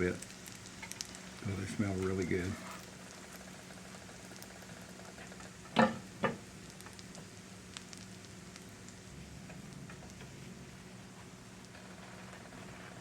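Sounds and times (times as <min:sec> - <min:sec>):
pancakes sizzling in oil: 0:00.0 - 0:13.0.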